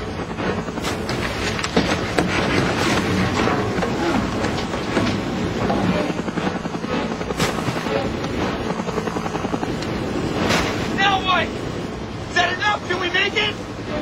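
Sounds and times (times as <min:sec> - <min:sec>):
helicopter rotor and engine noise: 0:00.0 - 0:14.0.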